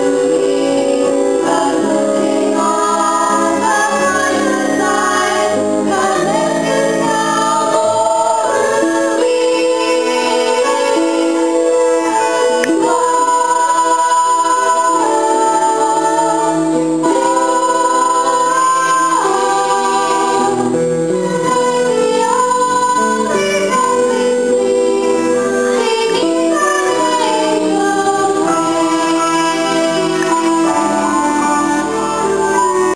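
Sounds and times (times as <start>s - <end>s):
instrumental accompaniment: 0.0s - 32.9s
young cast singing: 0.0s - 32.9s.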